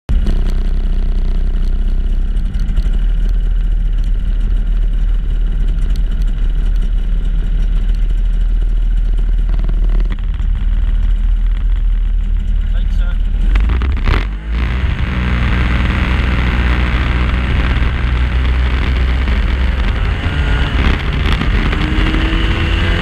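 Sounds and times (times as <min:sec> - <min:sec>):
snowmobile engine running: 0:00.1 - 0:23.0.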